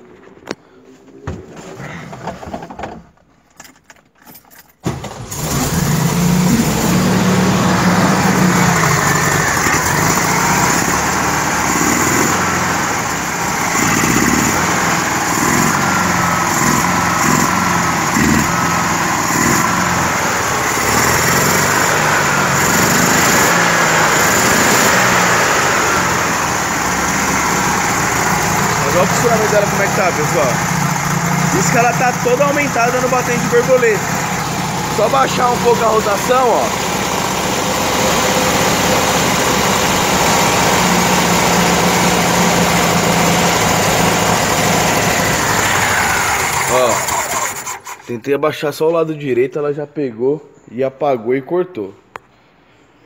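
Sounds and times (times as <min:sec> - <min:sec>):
car engine starting and running fast: 0:04.8 - 0:48.1.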